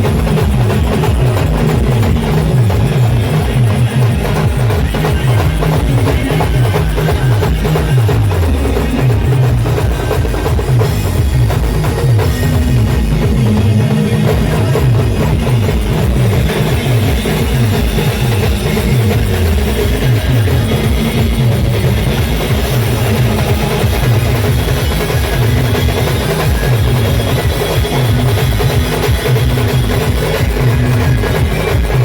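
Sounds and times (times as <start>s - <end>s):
heavy low drums: 0.0s - 32.0s
live band playing drum-heavy music: 0.0s - 32.0s.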